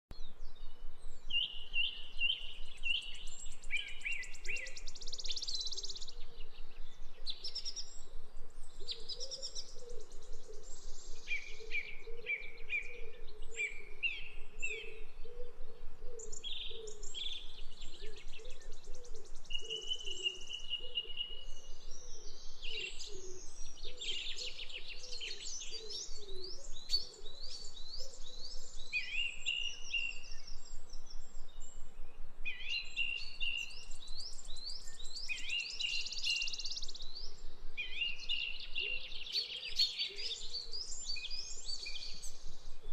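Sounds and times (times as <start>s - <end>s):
faint low repeating bird call: 0.1s - 42.9s
birds singing and chirping: 0.2s - 42.9s.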